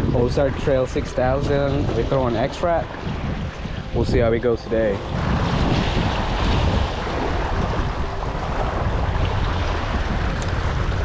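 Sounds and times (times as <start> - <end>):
strong wind on microphone: 0.0 - 11.0
waves washing: 0.0 - 11.0.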